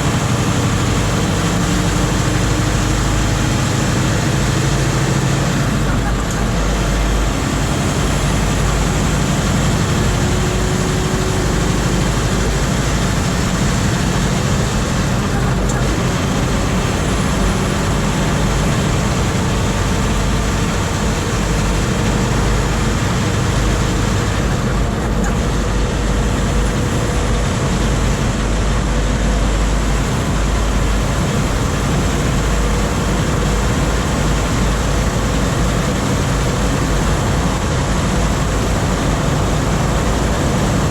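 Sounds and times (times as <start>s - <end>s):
diesel truck engine running: 0.0s - 40.9s
road and tyre noise: 0.0s - 40.9s.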